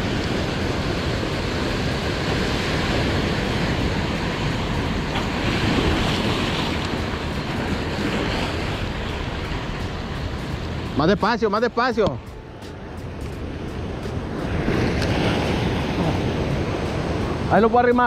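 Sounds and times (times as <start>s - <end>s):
surf washing onto beach: 0.0s - 18.0s.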